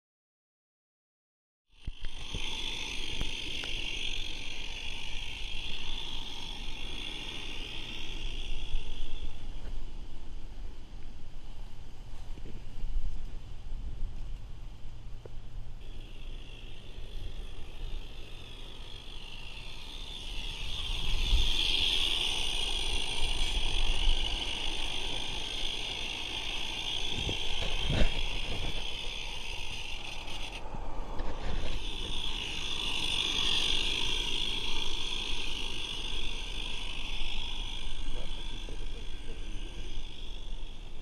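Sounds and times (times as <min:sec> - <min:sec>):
wheels rumbling and rattling on rails: 0:01.9 - 0:41.0.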